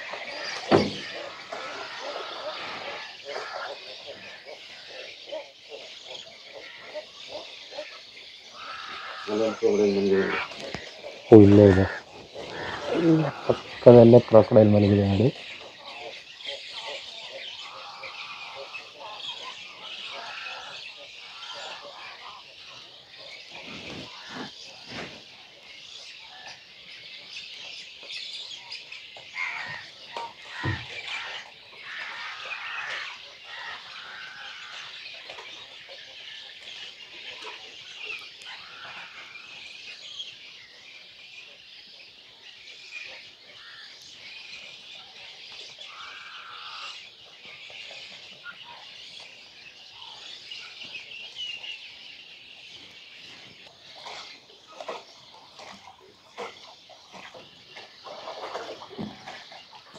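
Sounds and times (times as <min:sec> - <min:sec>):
birds chorus chirping: 0:00.0 - 0:59.9
loud bird calls: 0:00.0 - 0:59.9.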